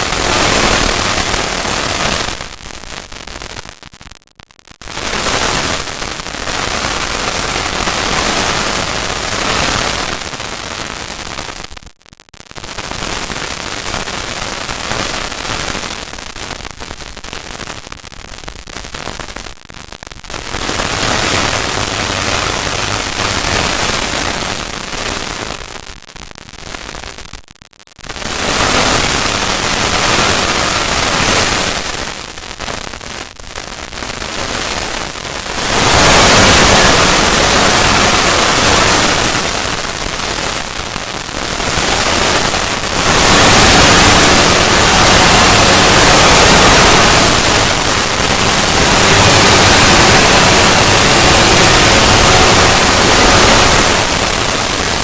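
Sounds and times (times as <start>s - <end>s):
harsh distorted static noise: 0.0s - 55.0s.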